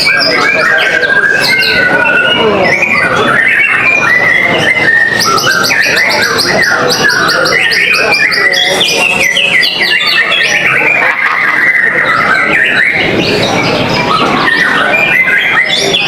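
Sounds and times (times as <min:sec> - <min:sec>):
birds singing whistled phrases: 0:00.0 - 0:16.0
fast trilled bird notes: 0:00.0 - 0:16.0.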